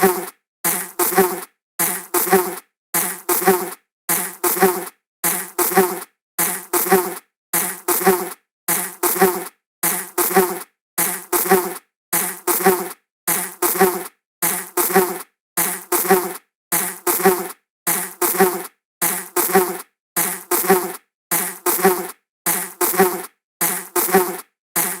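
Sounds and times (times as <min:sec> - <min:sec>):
flying insect wing buzz: 0:00.0 - 0:25.0.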